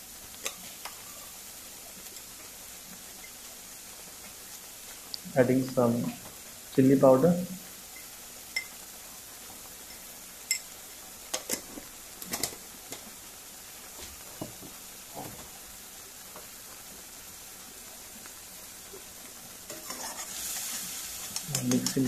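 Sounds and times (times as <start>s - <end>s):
paste simmering with pops: 0.0s - 5.3s, 7.9s - 22.0s.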